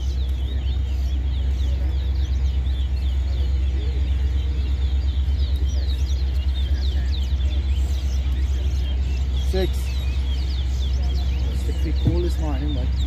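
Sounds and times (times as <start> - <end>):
low rumble: 0.0 - 13.0
songbirds chirping: 0.0 - 13.0.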